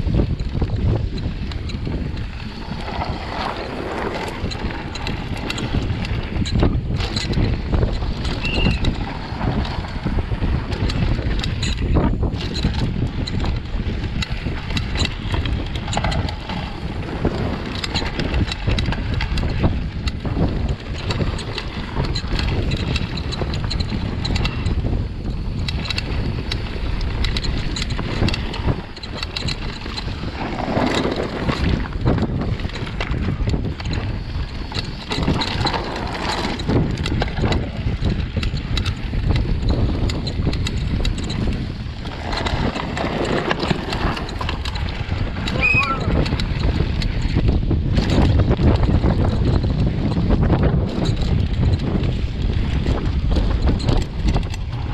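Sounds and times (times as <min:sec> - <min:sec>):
bike rattling over bumps: 0:00.0 - 0:54.9
wind buffeting microphone: 0:00.0 - 0:54.9
tyres on dirt and stones: 0:00.1 - 0:24.9, 0:25.5 - 0:54.9.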